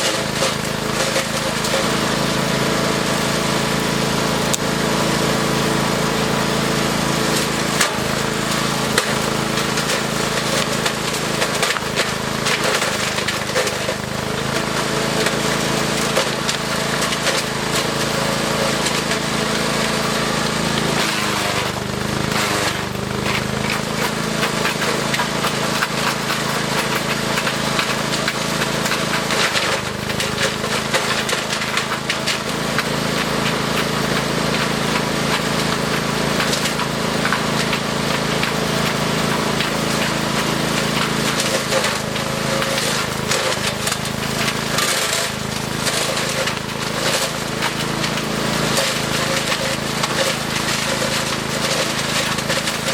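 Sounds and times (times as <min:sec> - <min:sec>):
wood cracking and splintering: 0:00.0 - 0:01.9, 0:07.3 - 0:52.9
wood chipper engine running: 0:00.0 - 0:52.9.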